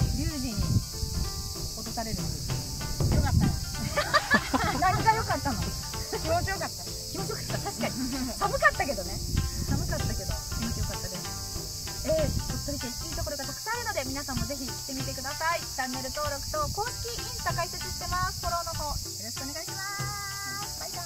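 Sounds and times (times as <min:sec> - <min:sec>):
people talking: 0:00.0 - 0:00.7, 0:01.8 - 0:11.3, 0:12.0 - 0:21.0
insect chorus drone: 0:00.0 - 0:21.0.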